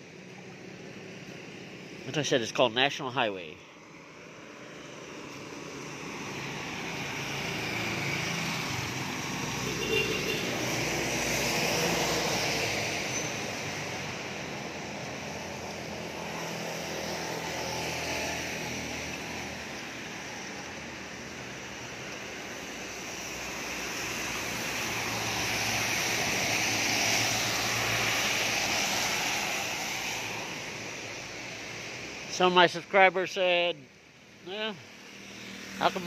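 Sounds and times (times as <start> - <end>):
traffic passing on wet road: 0.0 - 36.0.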